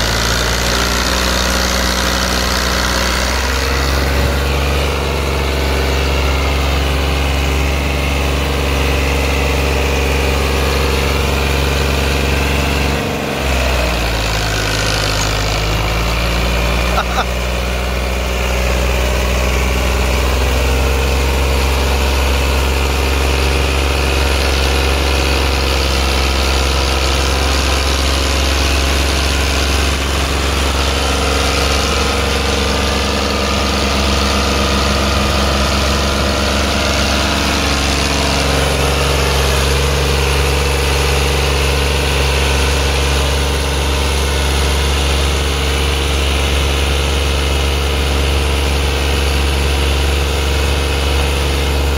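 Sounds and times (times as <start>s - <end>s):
tractor diesel engine under load: 0.0s - 51.9s.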